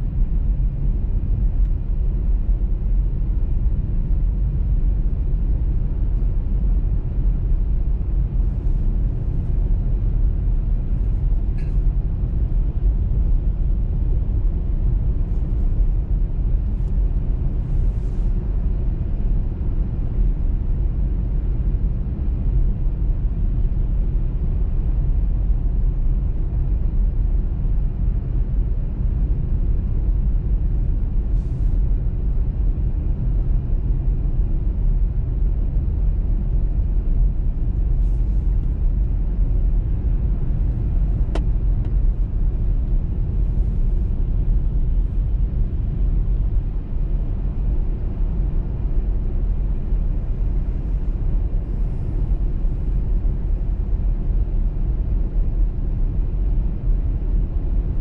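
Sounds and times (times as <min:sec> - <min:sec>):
car driving rumble: 0:00.0 - 0:56.8.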